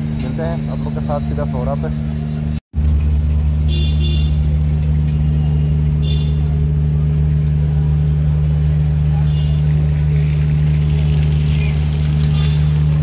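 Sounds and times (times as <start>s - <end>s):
motorcycle engine drone: 0.0s - 13.0s.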